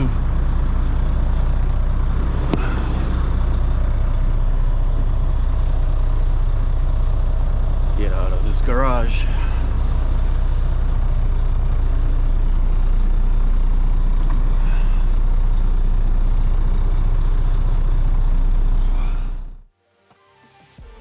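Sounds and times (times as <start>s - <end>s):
truck diesel engine running: 0.0s - 19.7s.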